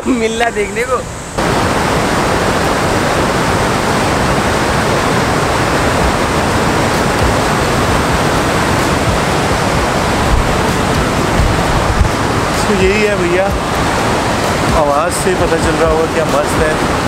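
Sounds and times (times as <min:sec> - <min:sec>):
water rushing down spillway: 0:00.3 - 0:17.0.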